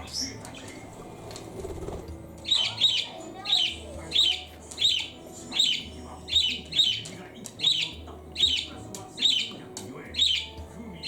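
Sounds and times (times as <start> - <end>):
parakeet calls: 1.6 - 11.0.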